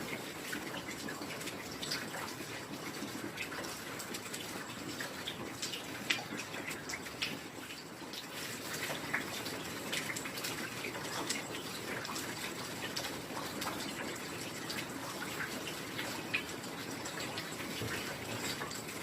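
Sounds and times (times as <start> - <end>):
heavy rain falling: 0.0 - 19.0
raindrops striking close by: 0.0 - 19.0.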